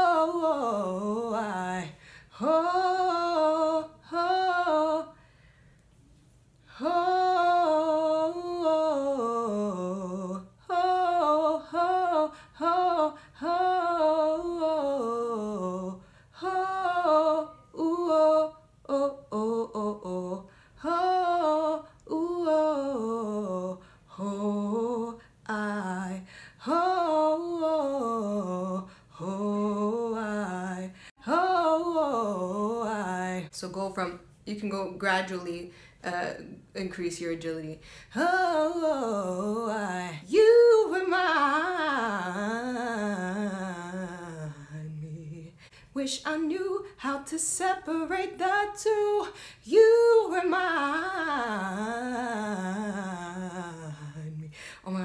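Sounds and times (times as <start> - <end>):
woman singing a cappella riffs: 0.0 - 5.8, 6.5 - 55.0.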